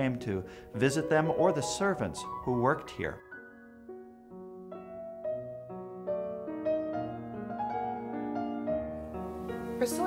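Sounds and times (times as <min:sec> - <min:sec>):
slow background music: 0:00.0 - 0:10.0.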